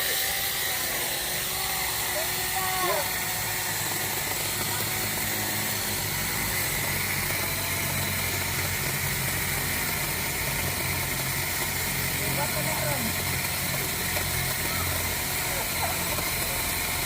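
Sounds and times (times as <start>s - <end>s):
hiss: 0.0s - 17.0s
motor running with low hum: 0.0s - 17.0s.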